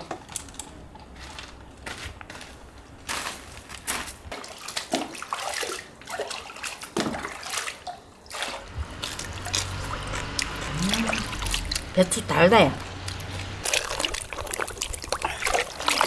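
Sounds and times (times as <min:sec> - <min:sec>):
water sloshing and splashing: 0:01.2 - 0:16.0.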